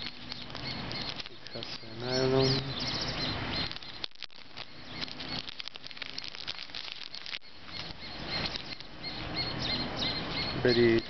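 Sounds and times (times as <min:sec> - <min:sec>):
plastic film being peeled off: 0:00.0 - 0:08.9.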